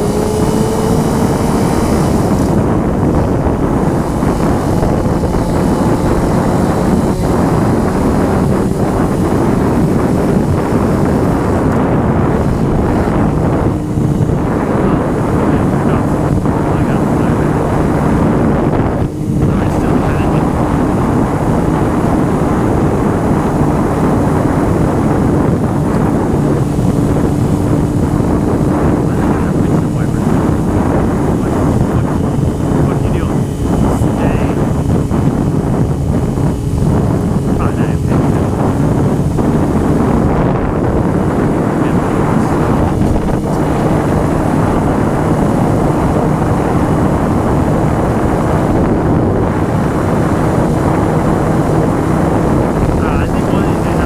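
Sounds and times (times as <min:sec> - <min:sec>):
motorcycle engine humming: 0:00.0 - 0:54.0
wind buffeting microphone: 0:00.0 - 0:54.0.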